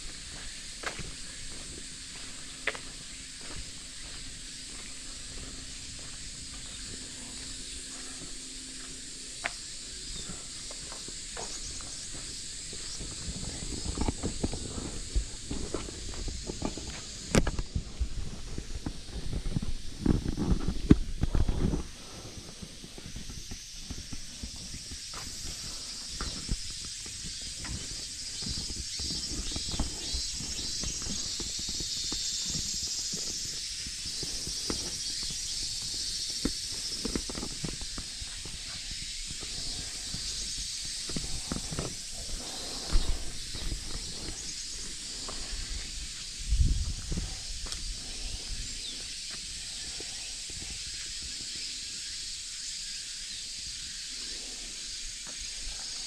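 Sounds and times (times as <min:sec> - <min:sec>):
footsteps crunching on gravel: 0:00.0 - 0:50.7
cicadas droning: 0:00.0 - 0:56.0.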